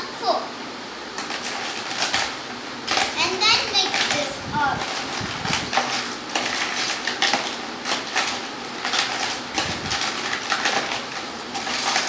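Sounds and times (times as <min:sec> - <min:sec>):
spoon stirring plastic pieces: 0:01.1 - 0:12.0.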